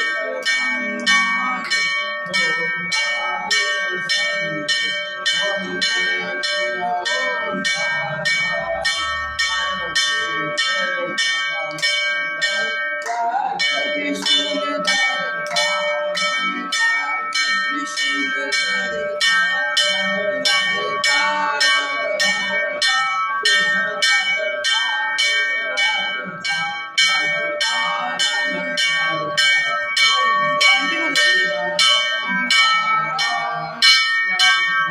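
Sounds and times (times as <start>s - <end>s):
temple bell ringing: 0.0s - 34.9s
voices: 0.0s - 34.9s.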